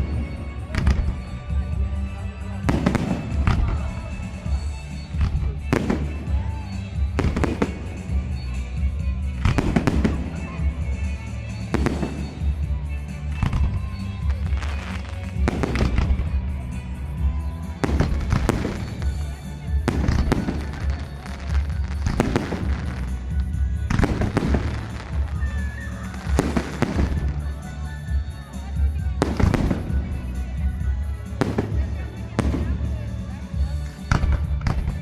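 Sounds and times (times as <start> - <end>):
background music: 0.0 - 35.0
fireworks bursting: 0.0 - 35.0.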